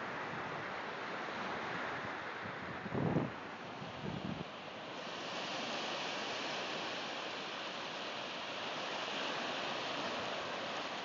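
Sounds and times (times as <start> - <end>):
small waves washing on sand: 0.0 - 11.0.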